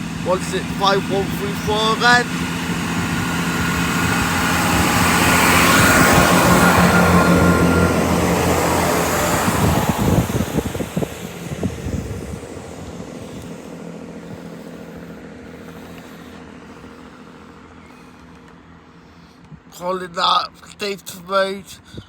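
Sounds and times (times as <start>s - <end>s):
diesel train engines droning: 0.0s - 22.0s.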